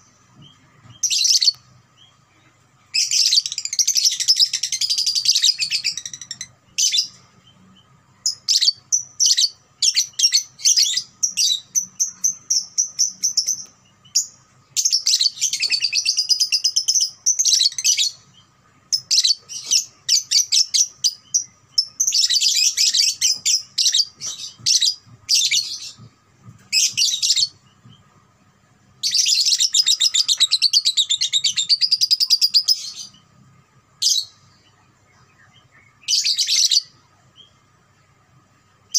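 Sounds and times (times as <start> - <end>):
lovebird chattering song: 0.5 - 28.0, 29.0 - 33.3, 34.0 - 37.6.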